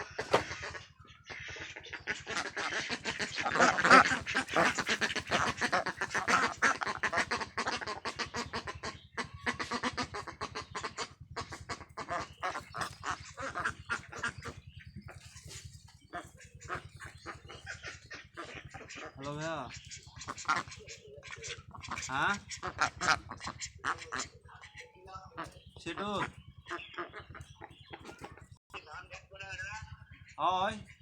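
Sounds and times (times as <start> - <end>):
ducks quacking: 0.0 - 31.0.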